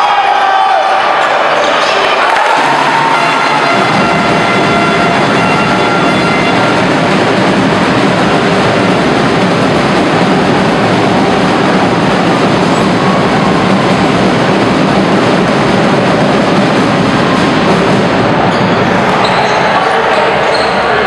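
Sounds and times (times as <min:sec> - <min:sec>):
arena crowd din: 0:00.0 - 0:21.0.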